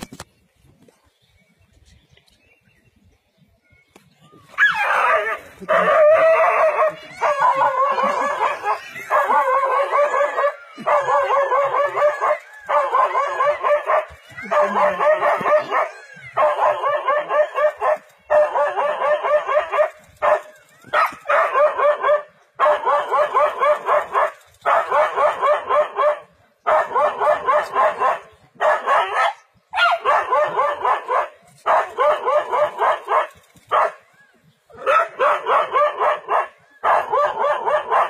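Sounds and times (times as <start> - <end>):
dog barking rapidly: 4.6 - 34.0, 34.8 - 38.0.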